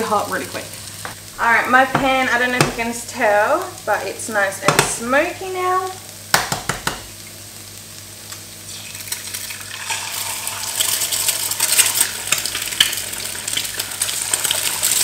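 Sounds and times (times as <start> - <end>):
egg sizzling in hot oil: 0.0 - 15.0.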